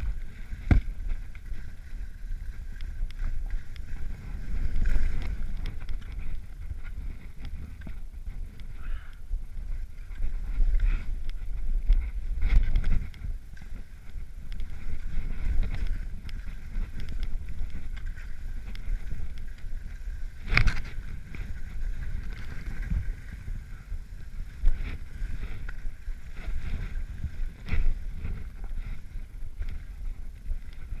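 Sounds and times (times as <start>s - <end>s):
rumbling movement through snow: 0.0s - 31.0s.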